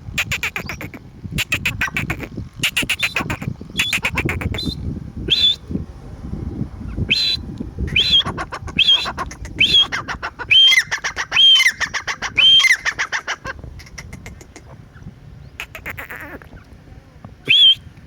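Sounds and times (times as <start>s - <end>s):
partridge calling: 0.1s - 5.7s, 6.9s - 16.7s.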